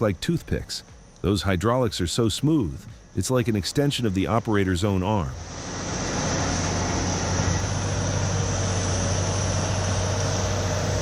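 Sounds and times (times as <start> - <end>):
material handler engine hum: 2.0 - 11.0.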